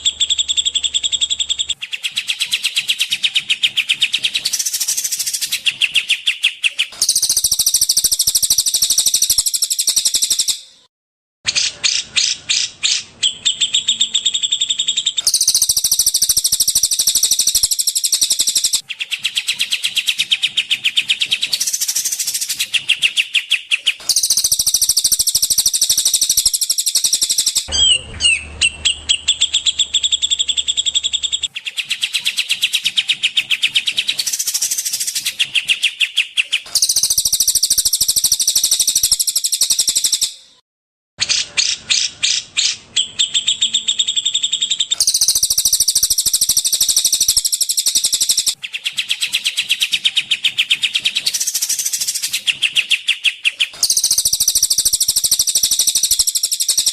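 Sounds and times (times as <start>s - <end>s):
recorded songbird trills: 0.0s - 10.8s, 11.5s - 40.6s, 41.2s - 56.9s.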